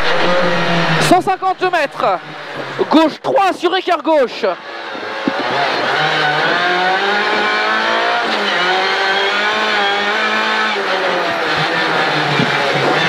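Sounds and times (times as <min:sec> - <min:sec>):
rally car engine accelerating: 0:00.0 - 0:03.3, 0:04.6 - 0:13.0.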